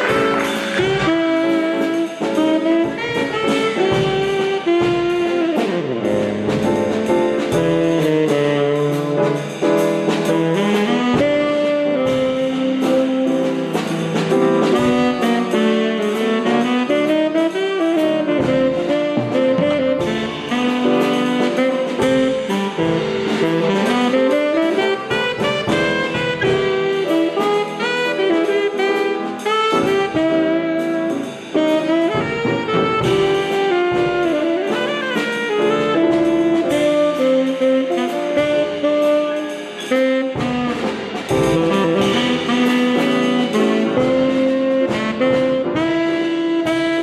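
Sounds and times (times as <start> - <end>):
saxophone lead: 0.0 - 47.0
steady drum beat: 0.0 - 47.0.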